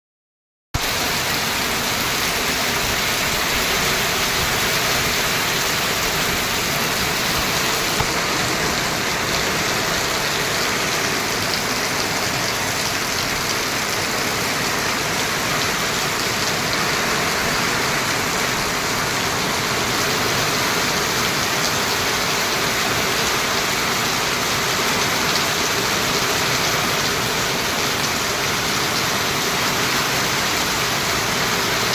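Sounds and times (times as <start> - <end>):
steady rain falling: 0.8 - 31.9.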